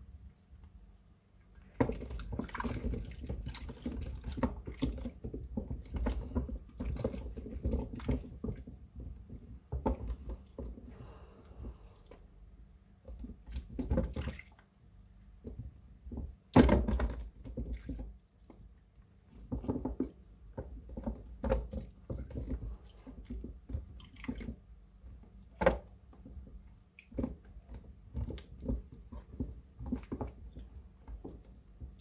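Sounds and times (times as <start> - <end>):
wet soap squelching: 1.4 - 10.8, 13.0 - 32.0.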